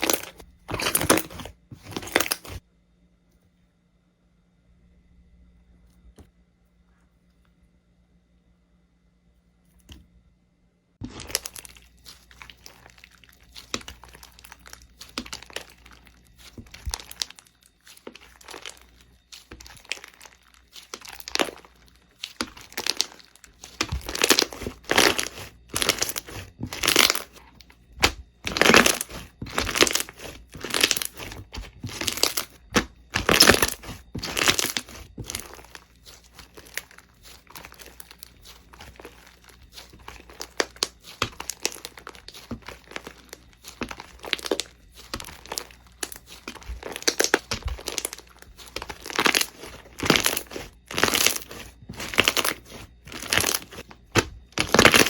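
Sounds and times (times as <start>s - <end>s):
slime squeezed and crackling: 0.0s - 2.6s, 11.0s - 55.0s.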